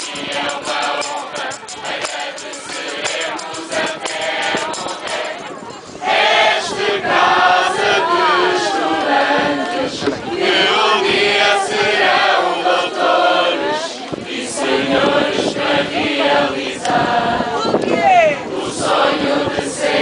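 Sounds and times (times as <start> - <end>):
mixed choir singing: 0.0 - 20.0.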